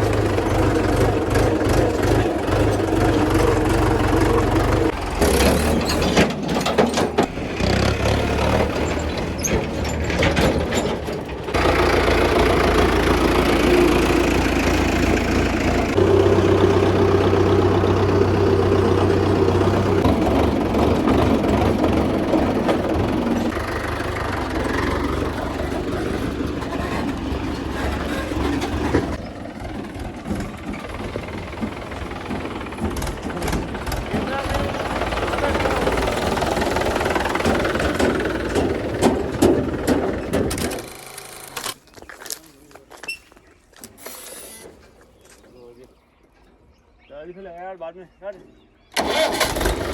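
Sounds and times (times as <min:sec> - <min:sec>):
tractor diesel engine running: 0:00.0 - 0:45.8, 0:48.9 - 0:49.9.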